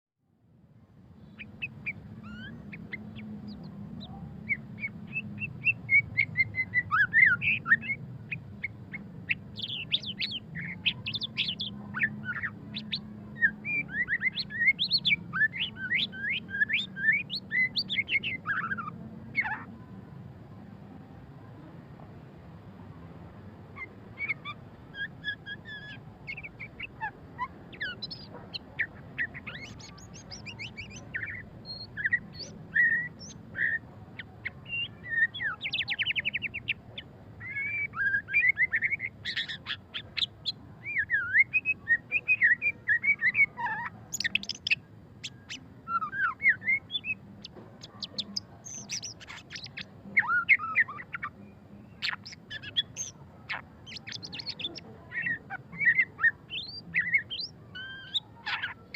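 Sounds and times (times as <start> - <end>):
songbird whistling and trilling: 1.2 - 19.7, 23.8 - 58.9.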